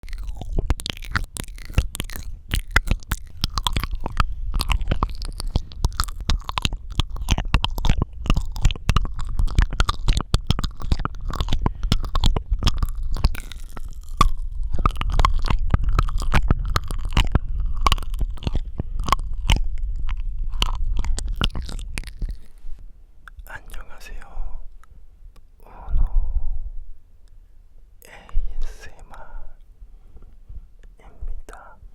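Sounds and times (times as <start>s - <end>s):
tongue and lip clicks: 0.0s - 26.1s.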